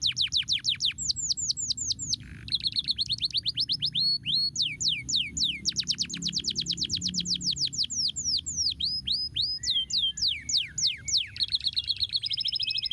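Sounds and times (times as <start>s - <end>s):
canary singing: 0.0s - 12.9s.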